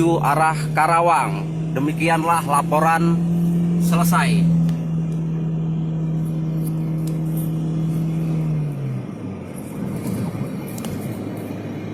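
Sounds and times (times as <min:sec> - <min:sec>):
road traffic noise: 0:00.0 - 0:11.9
vehicle engine humming: 0:00.0 - 0:11.9.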